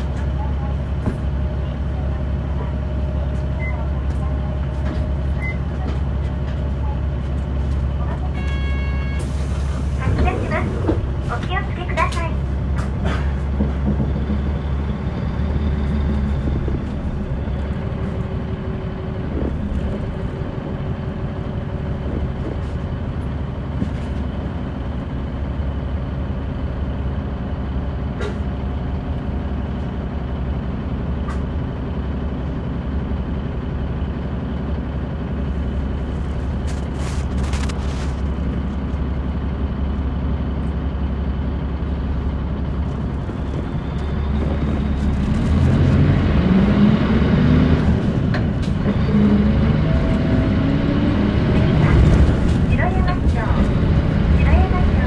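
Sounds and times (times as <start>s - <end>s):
bus diesel engine: 0.0s - 55.0s.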